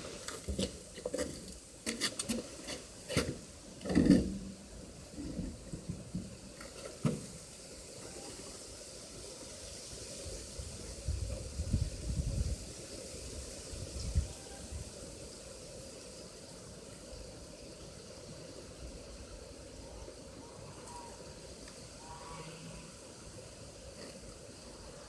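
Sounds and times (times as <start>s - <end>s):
low background hiss: 0.0s - 25.0s.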